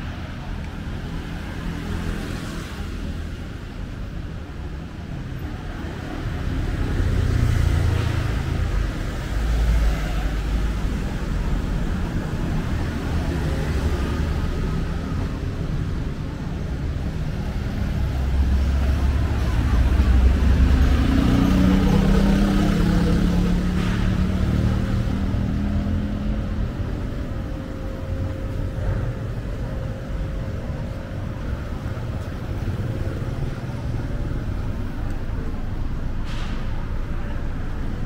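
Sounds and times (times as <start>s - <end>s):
vehicles passing close by: 0.0s - 38.0s.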